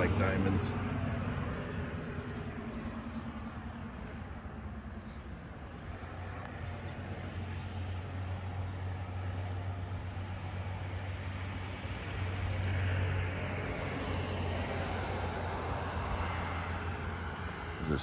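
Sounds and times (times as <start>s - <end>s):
passing vehicles hum: 0.0s - 18.0s.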